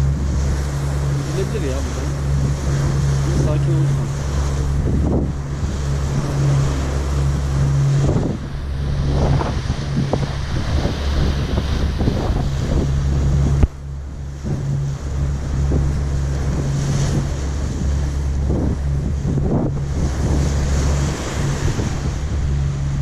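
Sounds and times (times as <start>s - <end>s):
low engine drone: 0.0s - 23.0s
water rushing: 0.0s - 23.0s
wind buffeting microphone: 0.0s - 23.0s.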